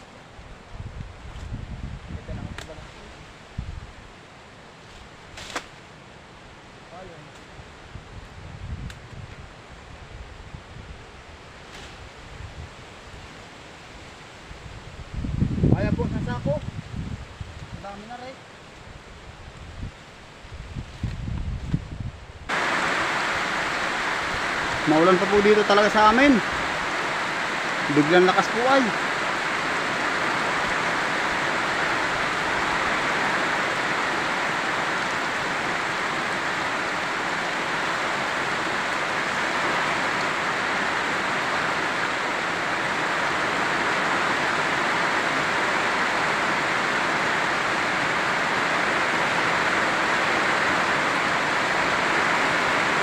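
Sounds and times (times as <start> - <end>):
heavy rain on leaves: 0.0 - 21.4, 22.3 - 53.0.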